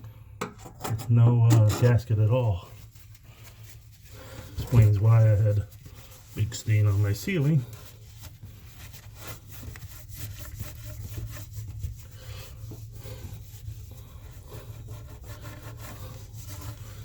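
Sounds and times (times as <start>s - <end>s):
scraping and rubbing on metal: 0.4s - 17.0s.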